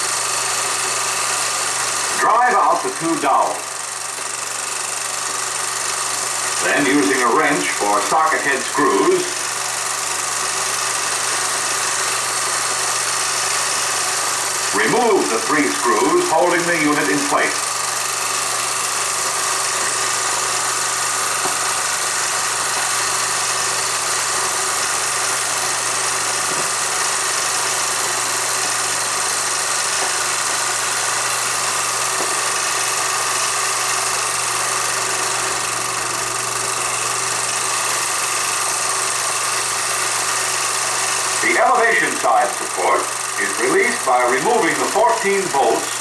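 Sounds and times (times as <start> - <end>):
film projector whirring: 0.0 - 46.0.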